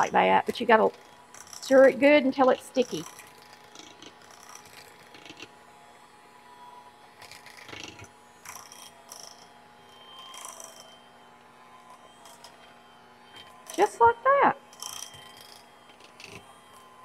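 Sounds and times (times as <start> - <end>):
electric hand mixer humming: 0.0 - 17.0.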